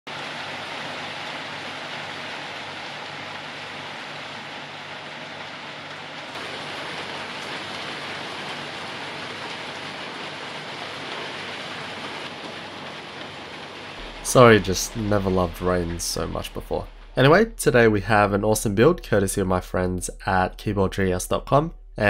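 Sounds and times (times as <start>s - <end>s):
rain on wooden deck: 0.1s - 21.6s.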